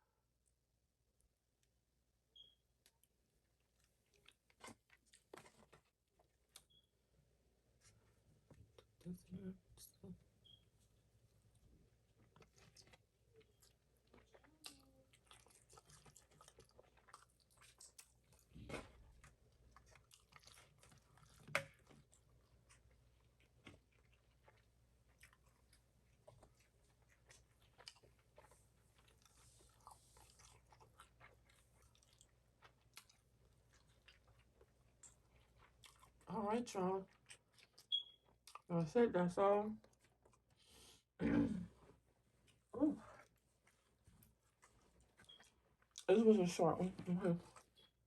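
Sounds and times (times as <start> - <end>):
chewing and crunching food: 2.4 - 6.9, 7.7 - 39.0, 39.6 - 41.0, 41.8 - 48.0.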